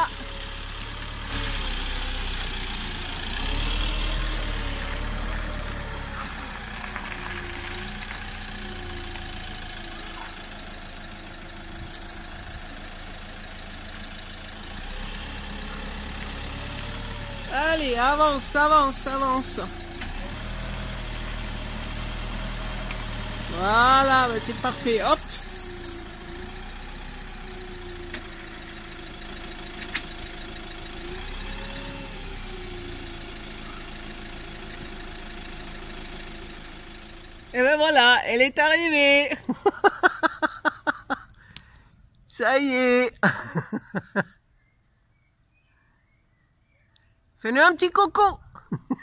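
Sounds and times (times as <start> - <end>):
diesel engine running low: 0.0 - 42.3.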